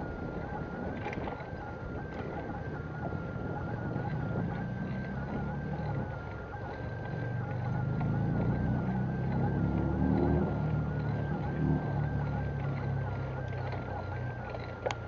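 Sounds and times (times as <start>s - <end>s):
bicycle tyres rumbling: 0.0s - 15.0s
wind on microphone: 0.0s - 15.0s.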